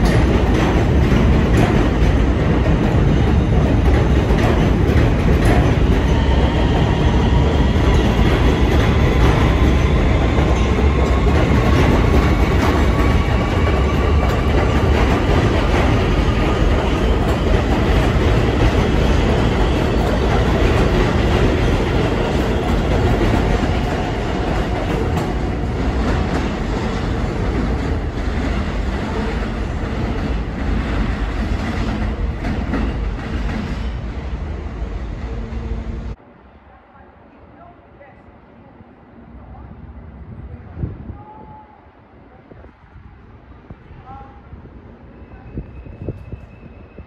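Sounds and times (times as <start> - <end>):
train wheels rumbling on rail: 0.0 - 36.2, 42.5 - 47.0.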